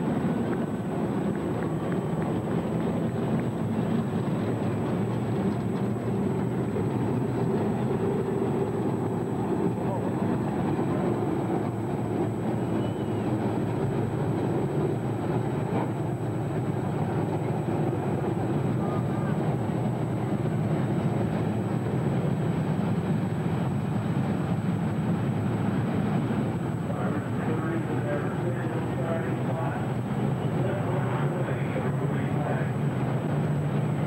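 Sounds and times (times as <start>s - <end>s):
race car engines droning: 0.0s - 34.0s.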